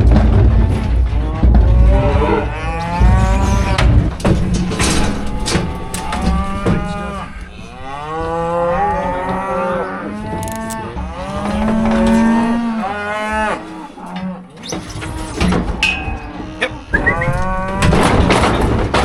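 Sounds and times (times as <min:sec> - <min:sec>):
cattle mooing and bawling: 0:00.4 - 0:18.5.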